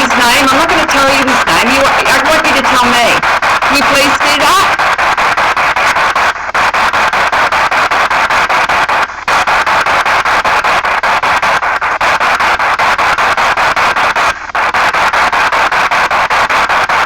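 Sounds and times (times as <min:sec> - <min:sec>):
chopped radio static: 0:00.0 - 0:17.0
snatches of broadcast sound: 0:00.0 - 0:17.0.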